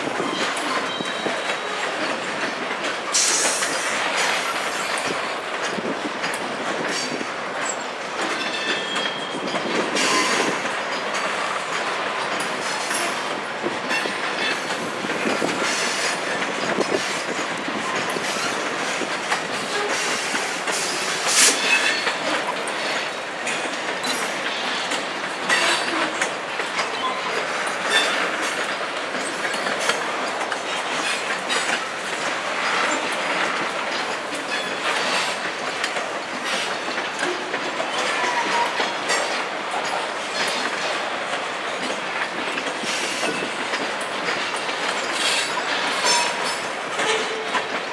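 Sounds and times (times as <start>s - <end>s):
train wheels clicking over rail joints: 0.0s - 47.9s.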